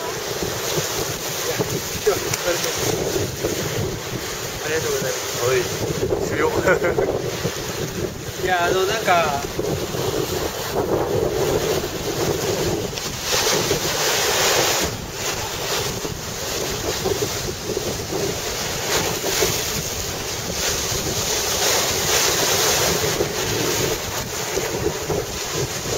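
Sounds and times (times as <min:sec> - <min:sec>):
sea waves washing onto beach: 0:00.0 - 0:25.9
wind blowing across microphone: 0:00.0 - 0:25.9.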